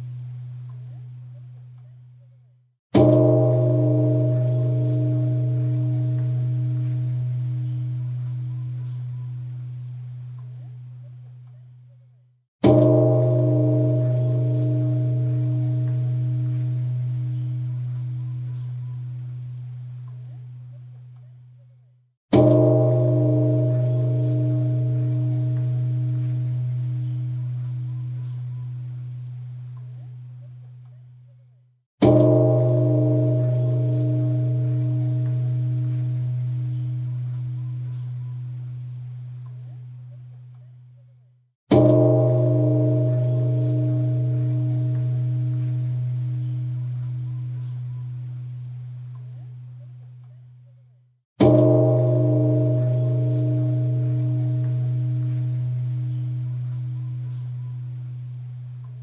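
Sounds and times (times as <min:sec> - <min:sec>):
large temple bell ringing: 0:03.0 - 0:11.7, 0:12.6 - 0:21.4, 0:22.3 - 0:30.9, 0:32.0 - 0:40.5, 0:41.7 - 0:50.3, 0:51.4 - 0:59.0.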